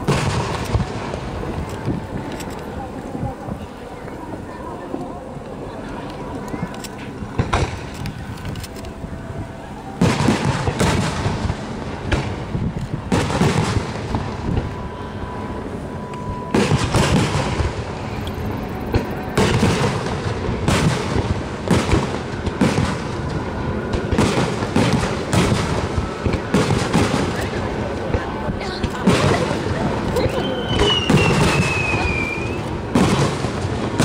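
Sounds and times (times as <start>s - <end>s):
fireworks bursting booms: 0.0s - 4.5s, 6.6s - 8.4s, 9.4s - 34.0s.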